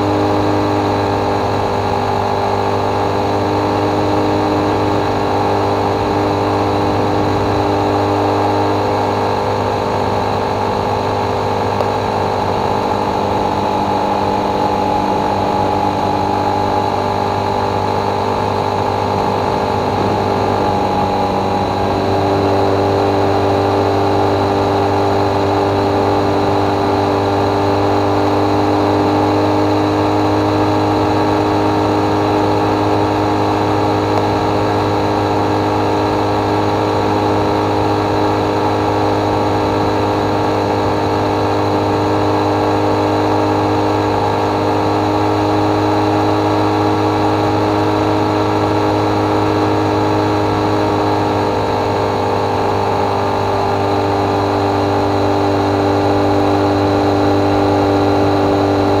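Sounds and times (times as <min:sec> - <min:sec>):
motorcycle engine cruising: 0:00.0 - 0:59.0
road noise: 0:00.0 - 0:59.0.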